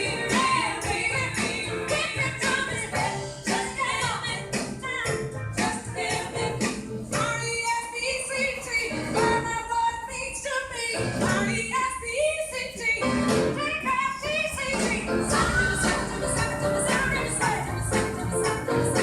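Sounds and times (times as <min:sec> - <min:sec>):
song with singing over beat: 0:00.0 - 0:09.8, 0:12.6 - 0:19.0.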